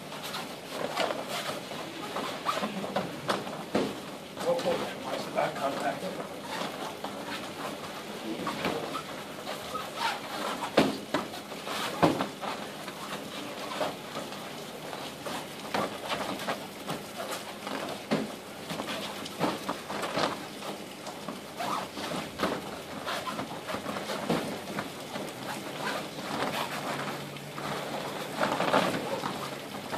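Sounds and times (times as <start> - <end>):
feet shuffling on foam mats: 0.0 - 29.9.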